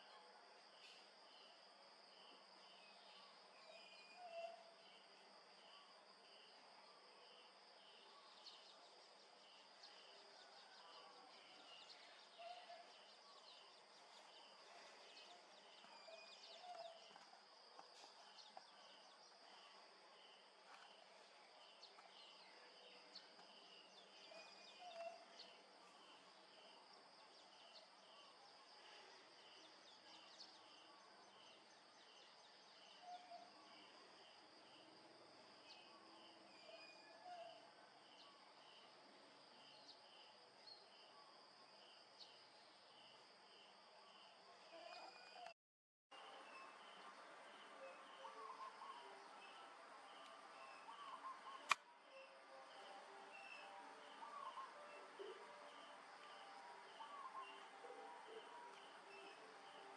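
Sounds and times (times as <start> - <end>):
insect chirping: 0.0 - 45.4, 46.1 - 59.9.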